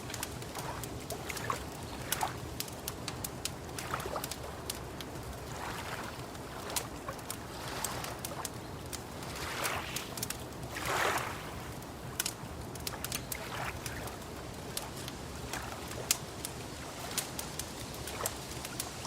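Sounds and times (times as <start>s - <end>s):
water lapping: 0.0s - 19.0s
wood fire crackling: 0.0s - 19.0s.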